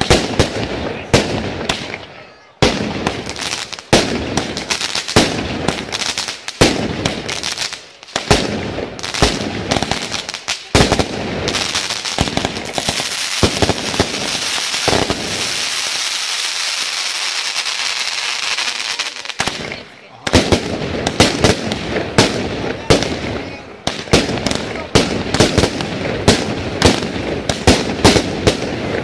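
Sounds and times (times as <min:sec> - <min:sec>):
fireworks bangs: 0:00.0 - 0:29.0
fireworks crackling hiss: 0:00.0 - 0:29.0.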